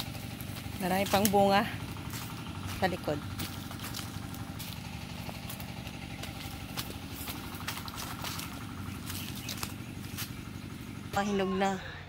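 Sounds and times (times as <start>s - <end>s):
footsteps on dry leaves: 0.0s - 11.4s
engine idling: 0.0s - 12.0s.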